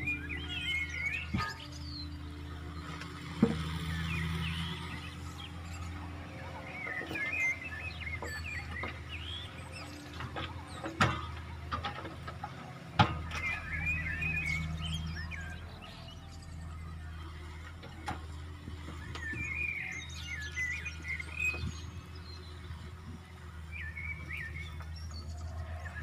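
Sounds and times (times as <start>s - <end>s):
birds chirping: 0.0s - 26.0s
diesel engine idling: 0.0s - 26.0s.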